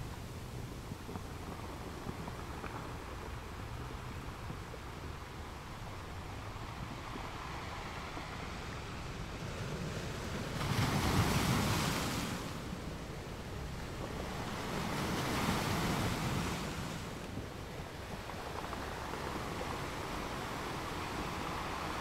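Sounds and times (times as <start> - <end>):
choppy sea water: 0.0 - 22.0
wind rumbling on microphone: 0.0 - 22.0.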